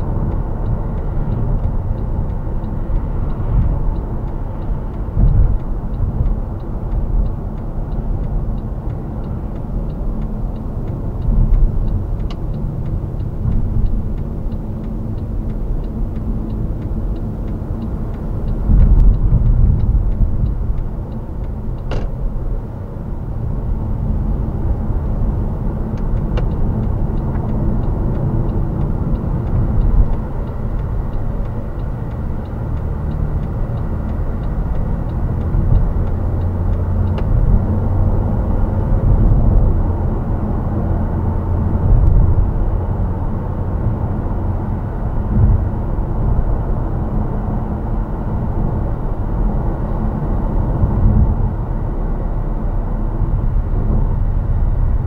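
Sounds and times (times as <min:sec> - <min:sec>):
car cabin road and engine rumble: 0:00.0 - 0:55.0.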